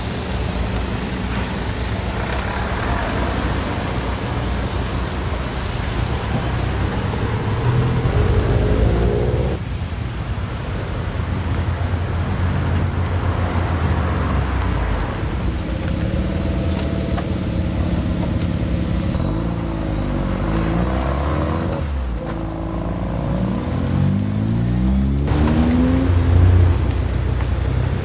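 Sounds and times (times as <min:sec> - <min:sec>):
car exhaust revving: 0:00.0 - 0:09.6, 0:13.0 - 0:28.0.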